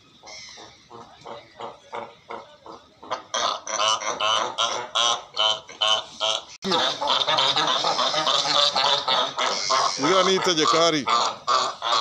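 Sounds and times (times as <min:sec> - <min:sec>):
seals barking: 0:00.0 - 0:12.0.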